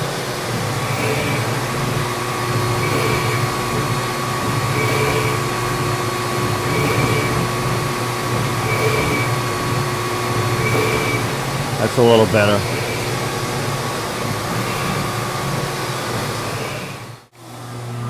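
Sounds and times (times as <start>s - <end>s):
lathe machine hum: 0.0s - 18.0s.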